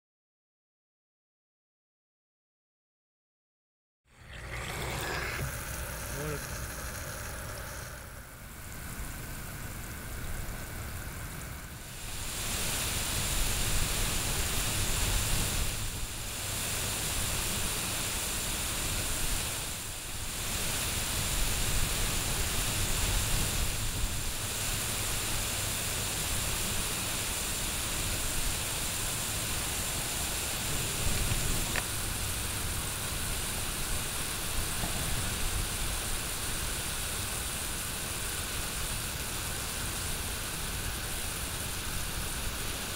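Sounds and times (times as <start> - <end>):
sprinkler spray hissing: 4.2 - 42.9.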